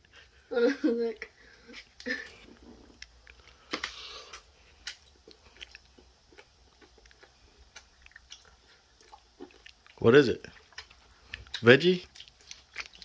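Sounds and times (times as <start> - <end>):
person chewing: 1.7 - 13.0.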